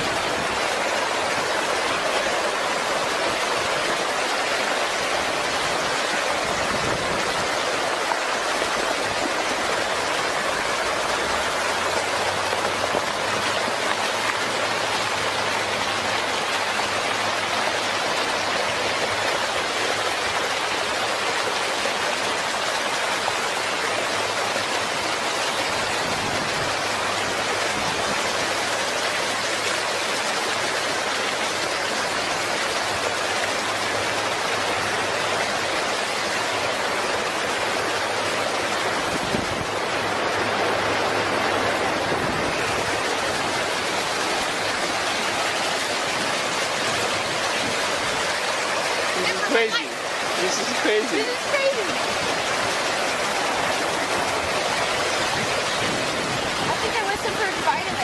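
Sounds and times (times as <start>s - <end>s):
flood water rushing: 0.0s - 58.0s.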